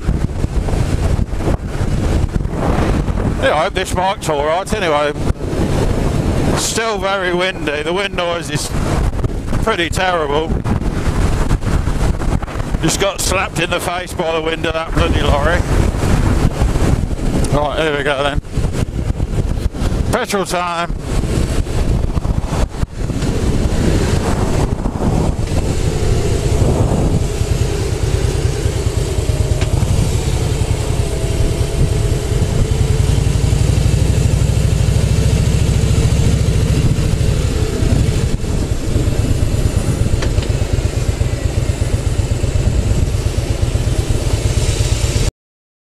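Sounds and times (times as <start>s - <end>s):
motorcycle engine running: 0.0s - 45.3s
wind noise on microphone: 0.0s - 45.3s.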